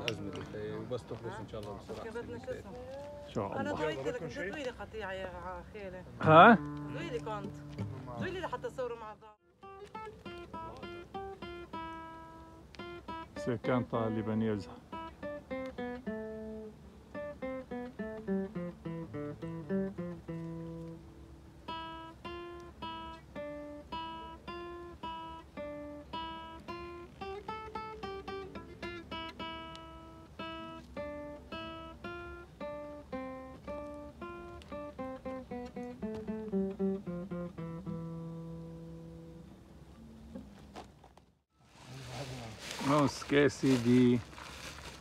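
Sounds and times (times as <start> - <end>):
acoustic guitar picked melody: 0.0 - 41.9.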